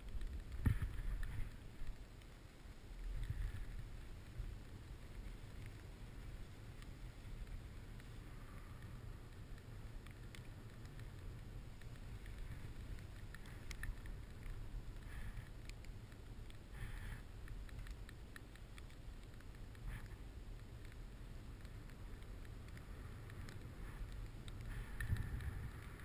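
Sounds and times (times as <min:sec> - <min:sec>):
small clicks and scrapes: 0:00.0 - 0:26.0
wind rumble on microphone: 0:00.0 - 0:26.0.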